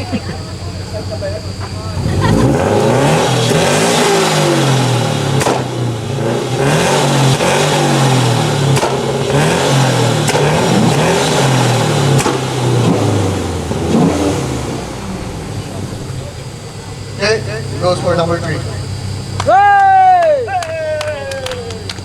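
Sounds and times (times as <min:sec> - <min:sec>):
car exhaust revving: 0:00.0 - 0:22.0
exhaust cracks: 0:00.0 - 0:22.0.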